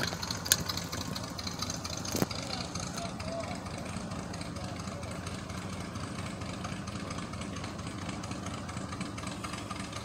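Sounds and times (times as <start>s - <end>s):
airboat engine running: 0.0s - 10.0s.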